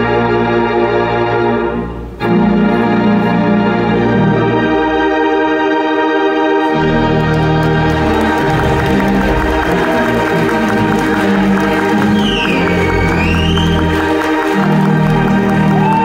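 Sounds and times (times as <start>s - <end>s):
deep organ pedal bass: 0.0s - 16.0s
pipe organ playing full chords: 0.0s - 16.0s.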